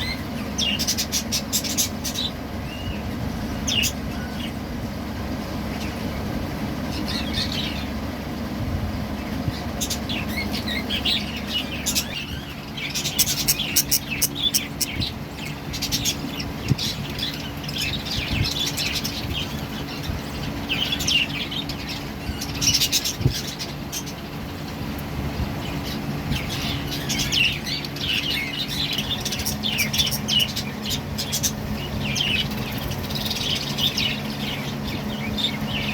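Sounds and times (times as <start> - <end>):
budgerigars chirping and chattering: 0.0 - 8.1, 9.2 - 35.9
steady low hum: 0.0 - 35.9.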